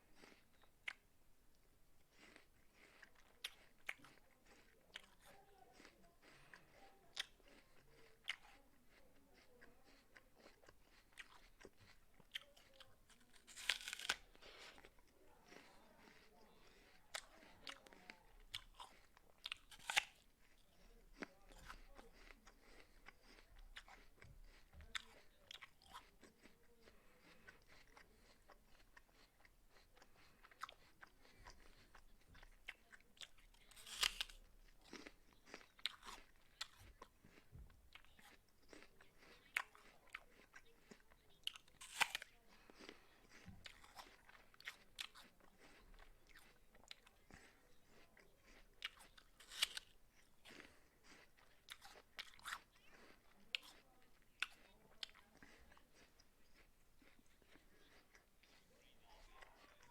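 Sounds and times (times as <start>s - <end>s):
apple crunching: 2.1s - 59.9s.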